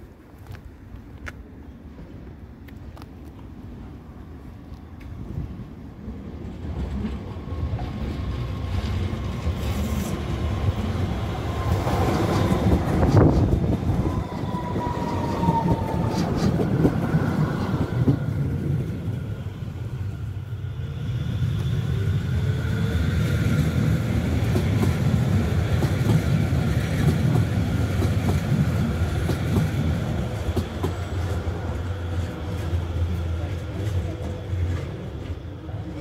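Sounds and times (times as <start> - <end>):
train passing close by: 1.2 - 36.0
train wheels rumbling on rail: 4.7 - 36.0
falling train tone: 6.2 - 36.0.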